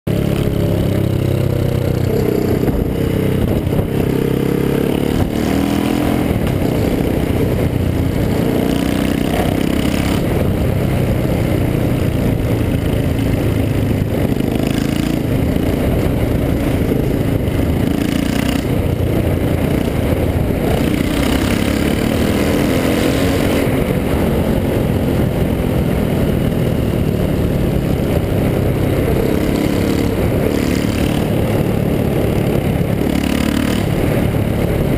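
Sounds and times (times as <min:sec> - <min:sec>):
loud motorcycle engine: 0:00.1 - 0:34.9.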